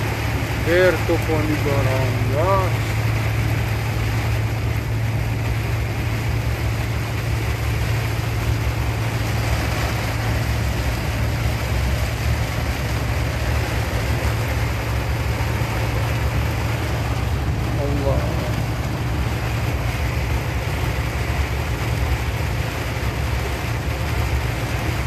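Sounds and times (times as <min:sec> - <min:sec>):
constant low hum: 0:00.0 - 0:25.0
heavy rain falling: 0:00.0 - 0:25.0.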